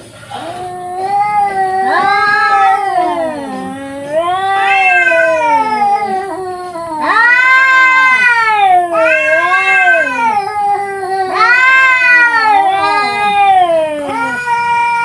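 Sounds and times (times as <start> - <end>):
cats yowling: 0.0 - 15.0.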